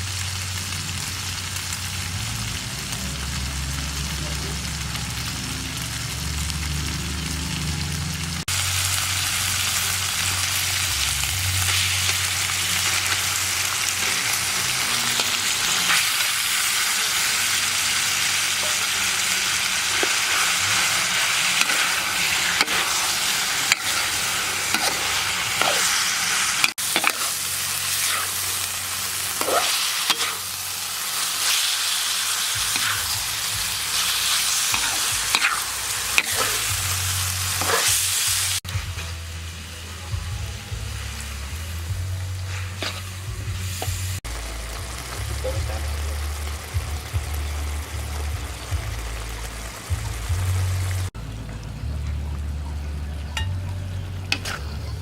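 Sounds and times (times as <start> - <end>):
food sizzling in a pan: 0.0 - 51.2, 54.3 - 55.0.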